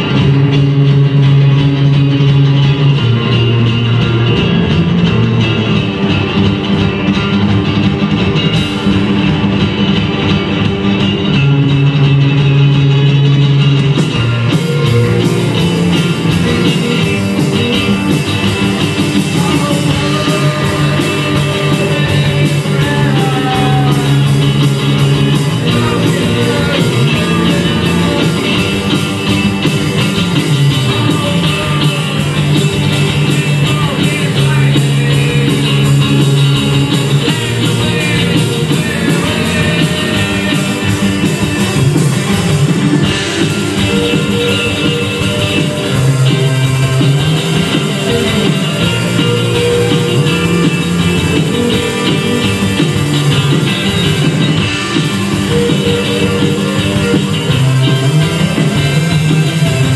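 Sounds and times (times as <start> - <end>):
drums: 0.0 - 59.9
electric bass: 0.0 - 59.9
electric guitar: 0.0 - 59.9
keyboard: 0.0 - 59.9.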